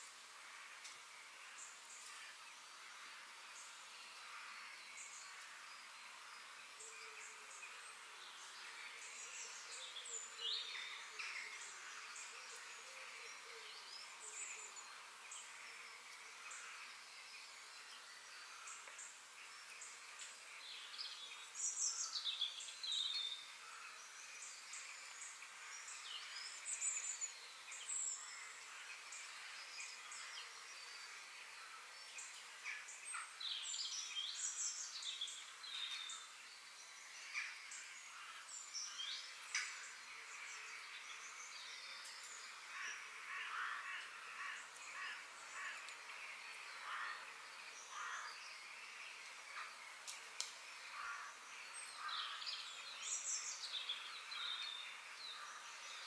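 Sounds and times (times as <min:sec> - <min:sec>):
faint background hiss: 0:00.0 - 0:56.0
forest birds singing: 0:00.0 - 0:56.0.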